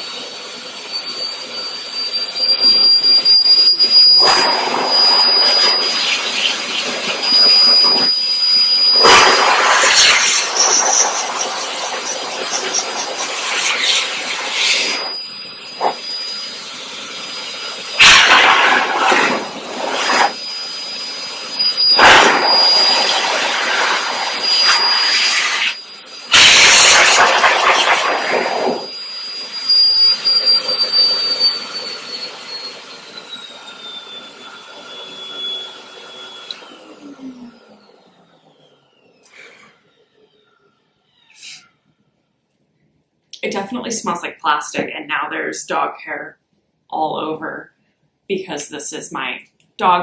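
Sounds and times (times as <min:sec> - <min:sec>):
pet dryer blower running: 0:00.0 - 0:40.4
blower winding down: 0:00.0 - 0:41.6.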